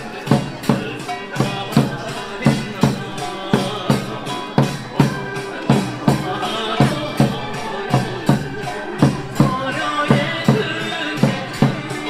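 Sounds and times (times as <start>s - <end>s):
drum beating steady rhythm: 0.0s - 12.0s
folk dance music: 0.0s - 12.0s.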